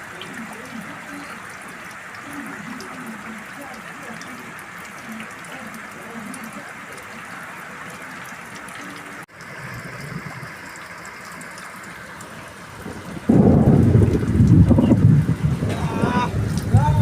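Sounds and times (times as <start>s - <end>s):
rainwater running along road: 0.0s - 17.0s.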